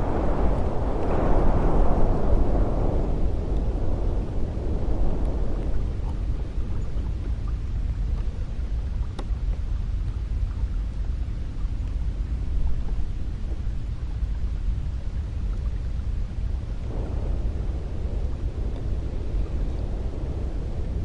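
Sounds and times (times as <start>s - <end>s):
steady rush of wind: 0.0s - 21.0s.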